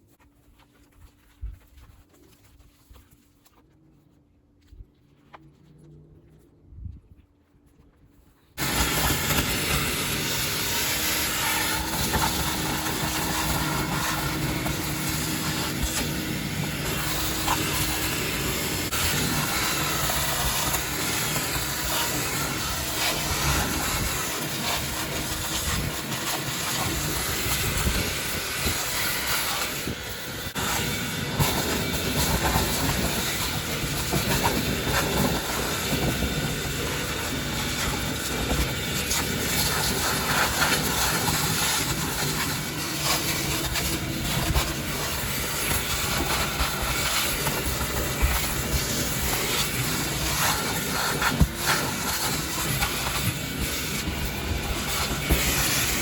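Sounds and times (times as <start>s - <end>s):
loud steady rushing hiss: 8.6s - 56.0s.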